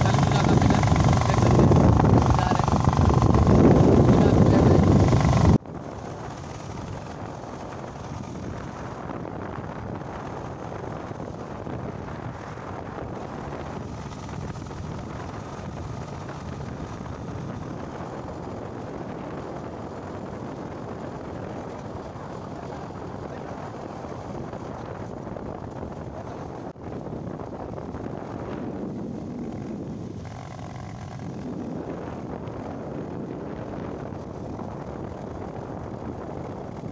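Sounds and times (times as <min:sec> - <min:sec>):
motorcycle engine and road noise: 0:00.0 - 0:36.9
wind rush on microphone: 0:00.0 - 0:36.9.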